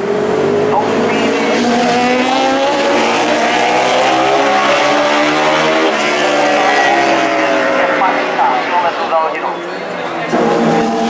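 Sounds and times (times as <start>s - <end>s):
racing motorcycle engines: 0.0s - 11.0s.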